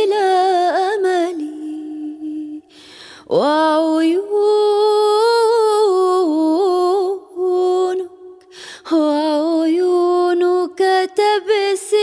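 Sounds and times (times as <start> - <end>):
woman singing unaccompanied: 0.0 - 2.7, 3.3 - 12.0.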